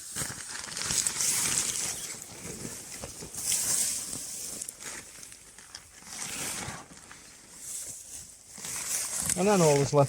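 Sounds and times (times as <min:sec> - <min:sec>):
rustling and crinkling handling noise: 0:00.0 - 0:10.0.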